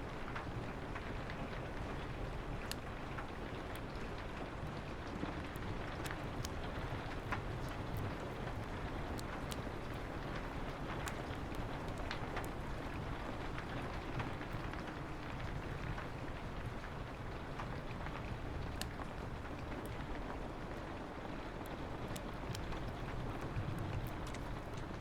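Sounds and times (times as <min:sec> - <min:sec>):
rain on a window: 0:00.0 - 0:25.0
wood fire crackling: 0:00.0 - 0:25.0.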